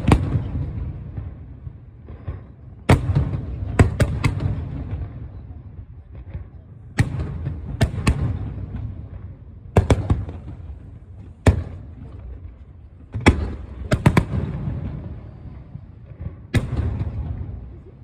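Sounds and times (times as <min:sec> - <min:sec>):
fireworks bursting with echoing rumble: 0:00.0 - 0:18.0.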